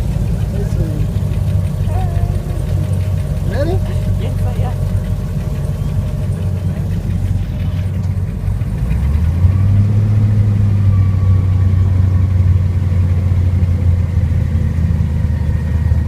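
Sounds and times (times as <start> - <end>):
airboat engine and propeller drone: 0.0 - 16.0.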